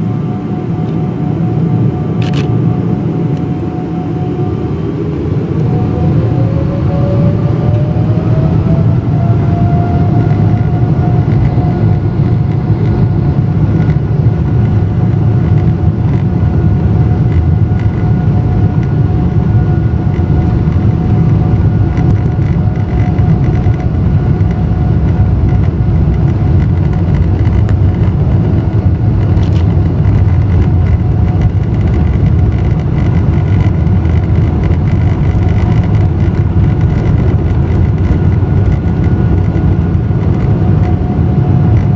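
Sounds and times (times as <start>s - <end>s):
jet engines at takeoff power: 0.0s - 41.9s.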